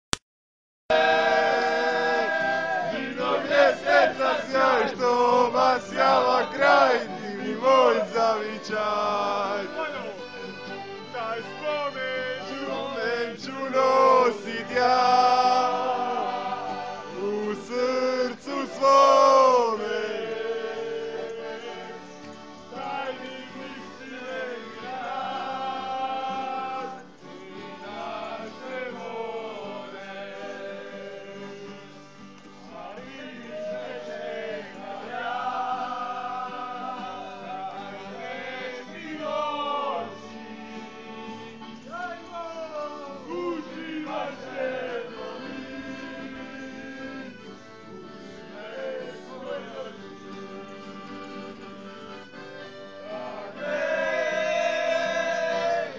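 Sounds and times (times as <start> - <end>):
group of men singing: 0.9 - 10.2, 11.2 - 32.0, 32.7 - 42.0, 42.8 - 51.5, 53.0 - 55.9.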